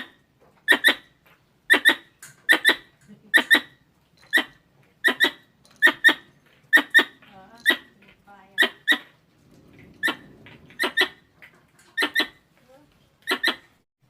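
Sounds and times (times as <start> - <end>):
squirrel chirps: 0.0 - 9.2, 10.0 - 11.3, 12.0 - 12.4, 13.2 - 13.8.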